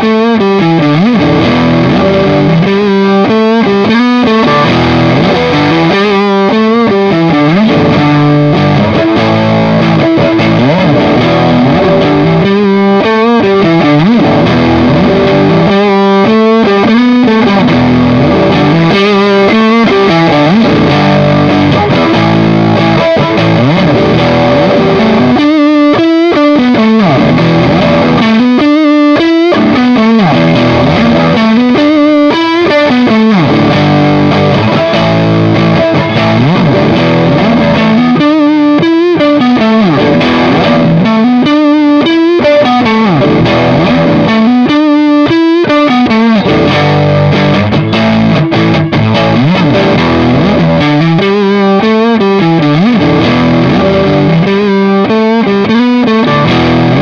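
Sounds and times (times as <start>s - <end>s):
distorted electric guitar riff: 0.0s - 57.0s.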